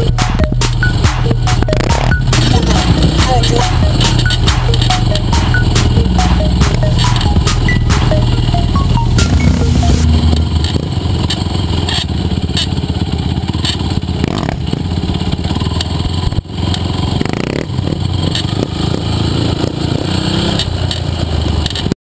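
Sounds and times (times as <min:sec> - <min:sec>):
quad engines revving: 0:00.0 - 0:22.0.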